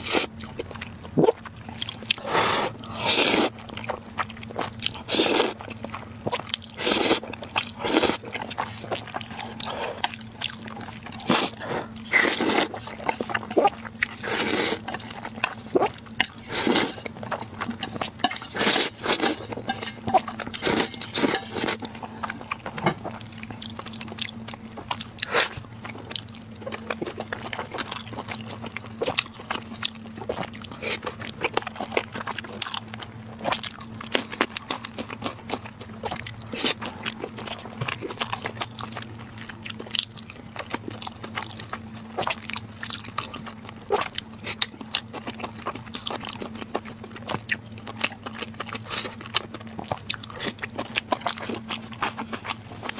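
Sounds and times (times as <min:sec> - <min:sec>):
faint low hum: 0:00.0 - 0:52.9
noodle slurping and chewing: 0:00.0 - 0:52.9.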